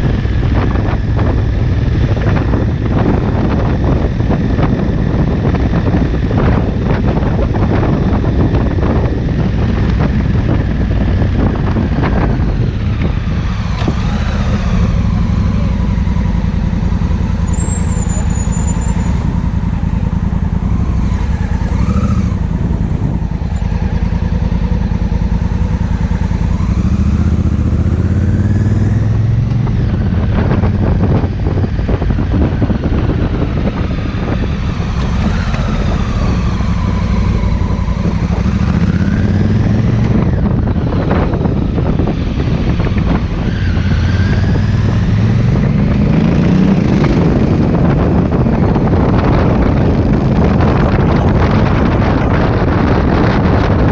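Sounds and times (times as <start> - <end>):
motorcycle engine running: 0.0 - 53.9
wind noise on microphone: 0.0 - 53.9.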